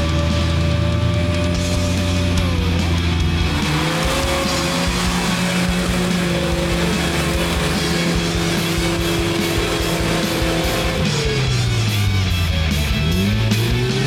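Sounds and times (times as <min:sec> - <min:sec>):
rock music: 0:00.0 - 0:14.0
vehicle engine revving: 0:00.0 - 0:14.0.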